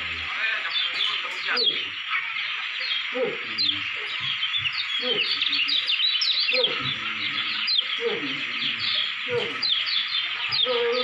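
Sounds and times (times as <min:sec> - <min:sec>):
bird chirps and trills: 0:00.0 - 0:11.0.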